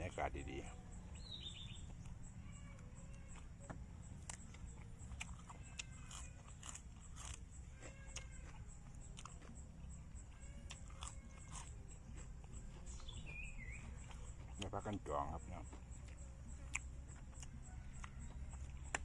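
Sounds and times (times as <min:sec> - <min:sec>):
faint insect chirping: 0:00.0 - 0:19.0
person chewing food: 0:00.7 - 0:19.0.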